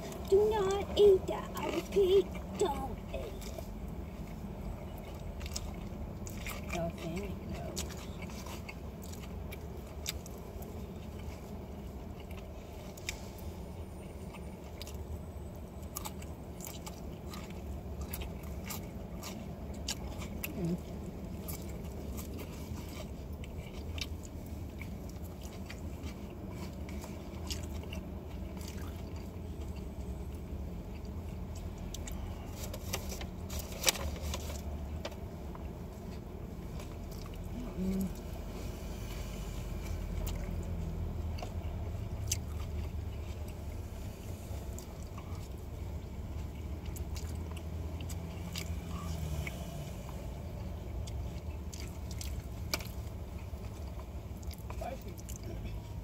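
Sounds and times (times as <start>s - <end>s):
low hum inside car cabin: 0.0s - 56.0s
person chewing food: 0.0s - 56.0s.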